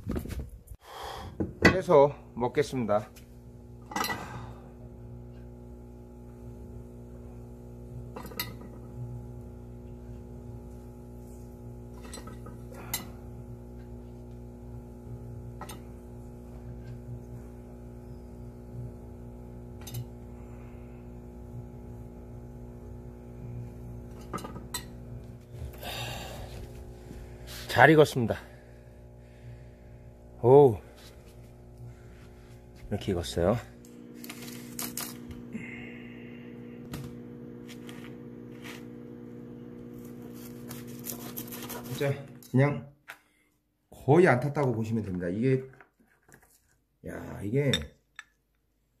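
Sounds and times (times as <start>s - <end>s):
steady low hum: 0.9s - 41.9s.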